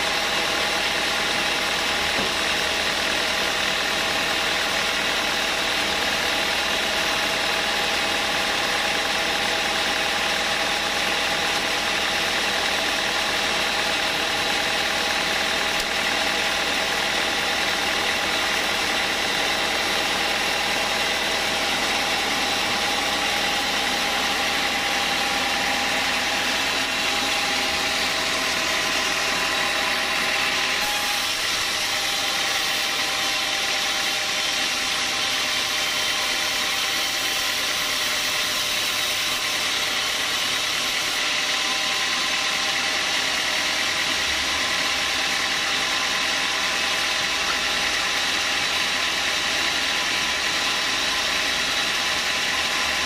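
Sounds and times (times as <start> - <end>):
band saw cutting log: 0.0 - 53.0.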